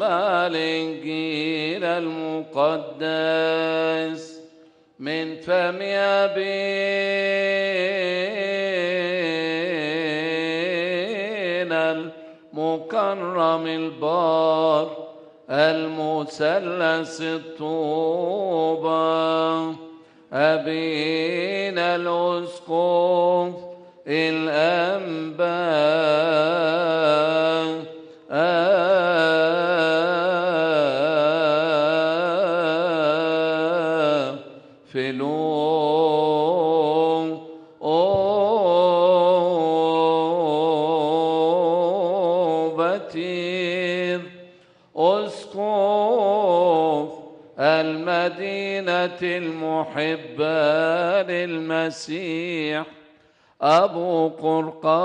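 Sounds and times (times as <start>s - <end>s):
man chanting into a microphone: 0.0s - 55.0s.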